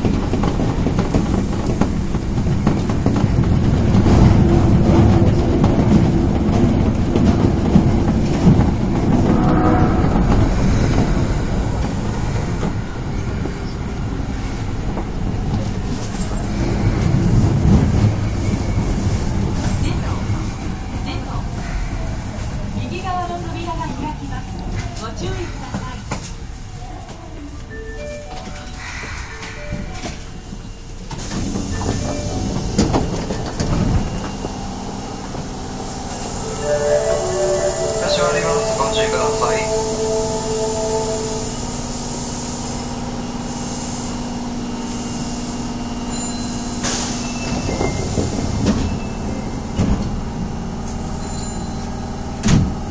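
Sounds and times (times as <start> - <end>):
train wheel and rail rumble: 0.0 - 52.9.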